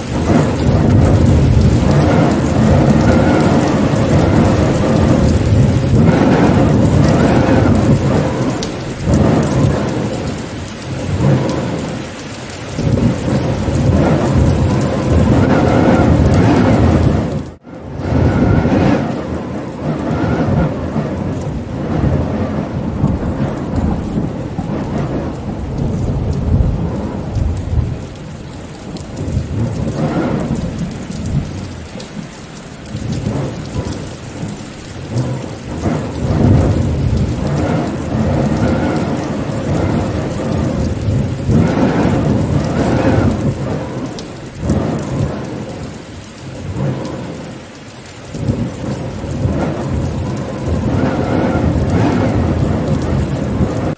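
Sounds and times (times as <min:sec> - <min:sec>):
deep rolling rumble: 0:00.0 - 0:47.6, 0:48.3 - 0:53.9
steady rain: 0:00.0 - 0:53.9.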